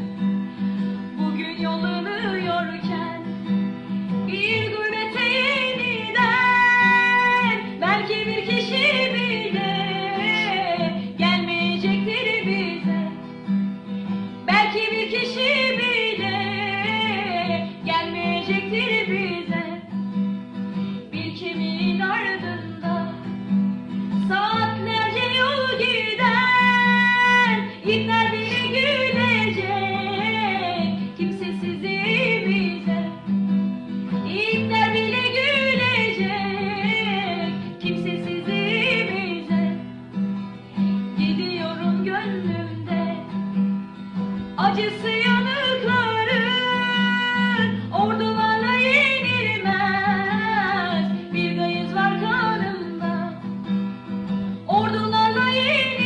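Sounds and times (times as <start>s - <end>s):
acoustic guitar: 0.0s - 56.0s
woman singing: 1.0s - 13.5s, 14.1s - 39.9s, 40.7s - 56.0s.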